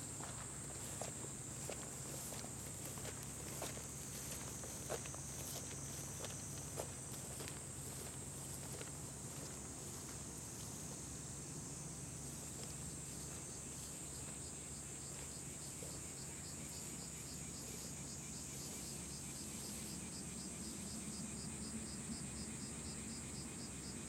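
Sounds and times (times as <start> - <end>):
insect chirping: 0.0 - 24.0
insects buzzing: 0.0 - 24.0.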